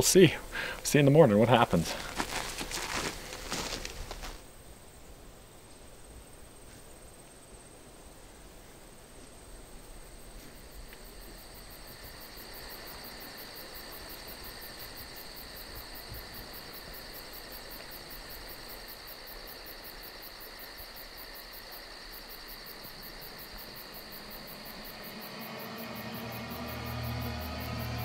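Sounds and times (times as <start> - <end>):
crickets pulsing chirp: 0.0 - 28.0
insects trilling: 0.0 - 28.0.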